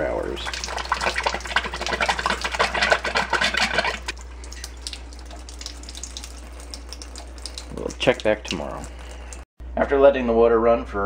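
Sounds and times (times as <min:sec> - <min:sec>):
water splashing into sink: 0:00.0 - 0:09.4.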